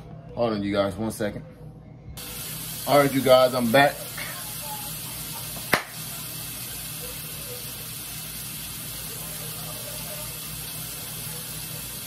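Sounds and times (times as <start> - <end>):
kitchen faucet water running: 2.2 - 12.0.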